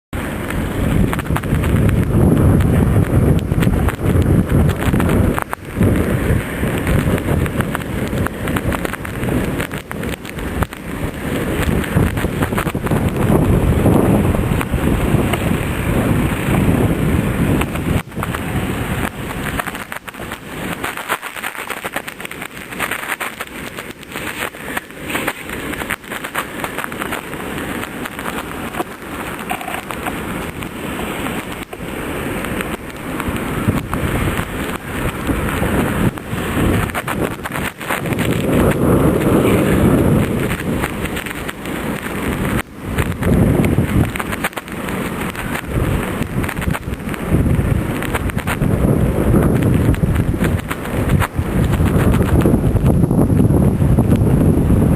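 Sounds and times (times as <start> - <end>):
wind buffeting microphone: 0.1 - 54.9.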